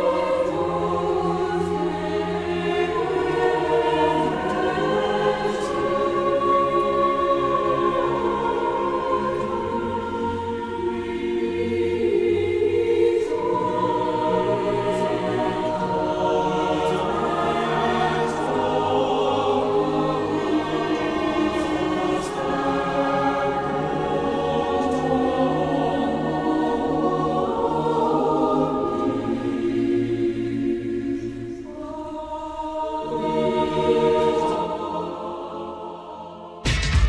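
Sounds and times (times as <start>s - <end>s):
choir singing sustained chords: 0.0s - 37.0s.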